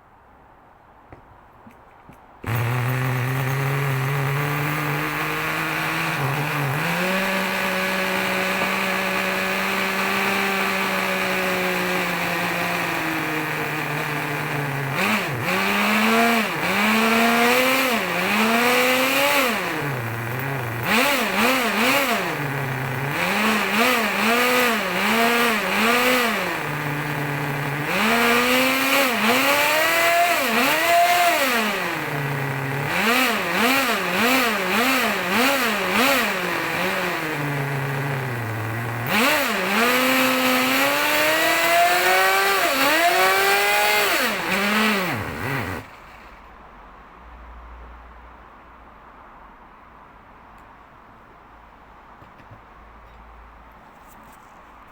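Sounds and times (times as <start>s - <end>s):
small engine idling and revving: 2.4s - 46.5s.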